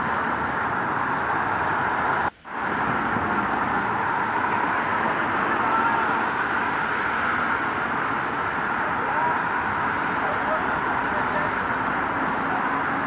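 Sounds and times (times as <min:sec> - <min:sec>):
rain on a street: 0:00.0 - 0:13.0
road traffic: 0:00.0 - 0:13.0.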